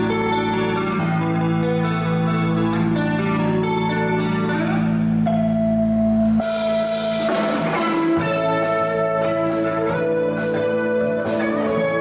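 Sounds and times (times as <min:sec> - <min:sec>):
live band playing instrumental: 0:00.0 - 0:12.0.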